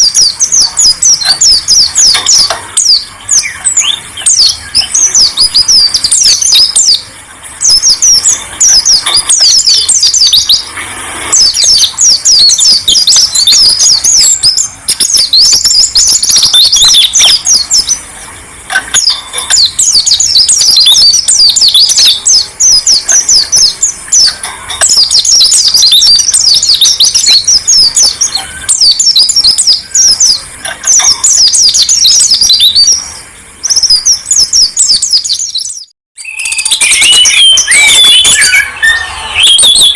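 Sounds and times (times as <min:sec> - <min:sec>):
songbird twittering: 0:00.0 - 0:10.7, 0:11.4 - 0:18.1, 0:18.7 - 0:39.9.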